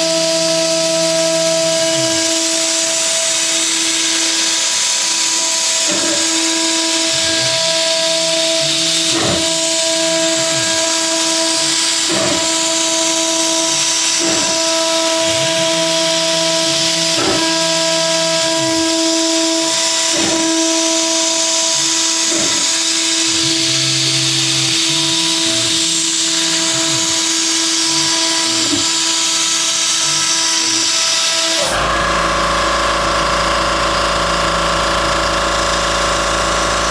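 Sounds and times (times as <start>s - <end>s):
router spindle whining: 0.0s - 36.9s.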